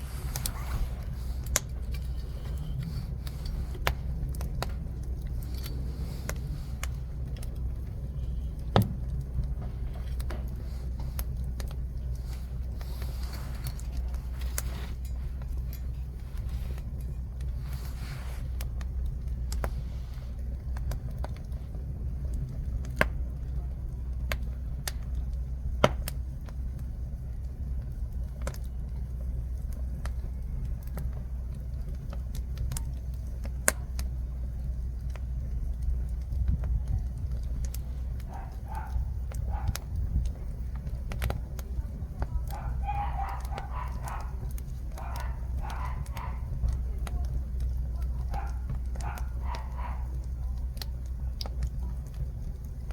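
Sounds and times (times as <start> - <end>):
loud fire pops: 0.0 - 52.9
low fire rumble: 0.0 - 52.9
wood fire crackling: 0.0 - 52.9.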